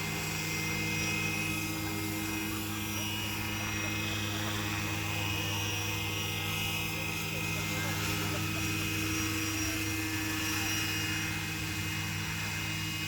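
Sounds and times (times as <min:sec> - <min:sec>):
model helicopter humming: 0:00.0 - 0:13.0.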